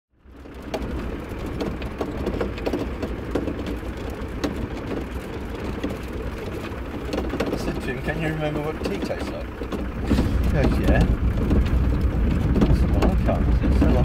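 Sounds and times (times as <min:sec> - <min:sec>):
engine and road rumble: 0:00.1 - 0:14.0
stones crackling under tyres: 0:00.2 - 0:14.0.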